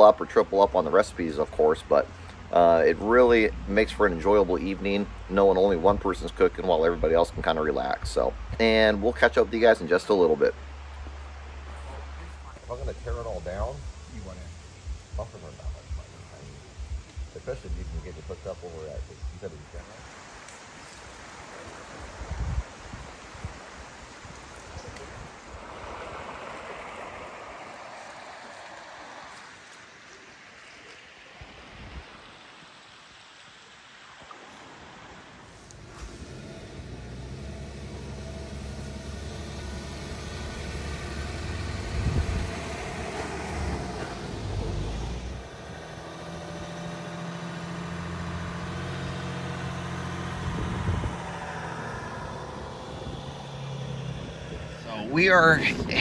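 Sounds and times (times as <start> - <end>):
vehicle engine at low speed: 0.0 - 23.5, 24.5 - 29.9, 35.5 - 56.0
river running over rocks: 0.0 - 56.0.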